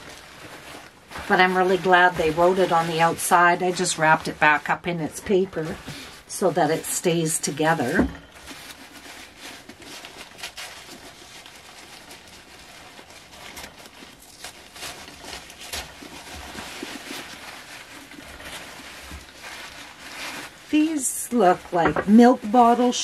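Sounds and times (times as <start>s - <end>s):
paper wrapping crinkling: 0.0s - 23.0s.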